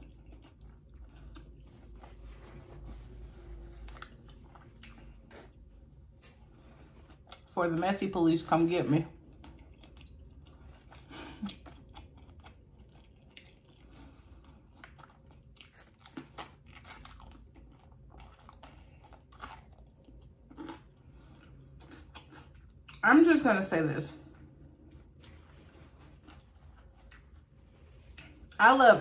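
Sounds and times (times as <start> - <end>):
close-up chewing: 0.0 - 2.4, 3.3 - 7.5, 9.1 - 23.0, 24.4 - 28.6.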